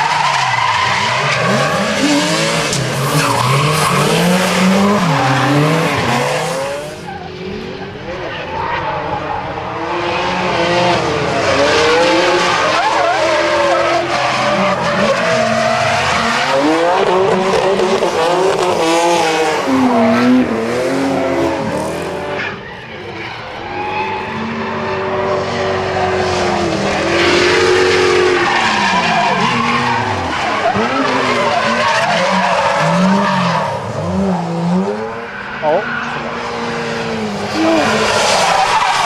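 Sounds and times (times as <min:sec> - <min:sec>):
tyres squealing and skidding: 0:00.0 - 0:10.0, 0:10.9 - 0:39.0
car engines revving hard: 0:00.0 - 0:39.0.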